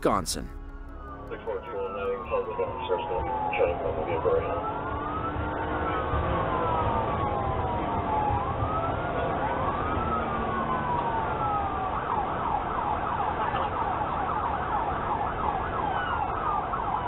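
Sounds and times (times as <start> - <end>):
police siren wailing: 0.5 - 17.0
car driving at speed: 0.9 - 17.0.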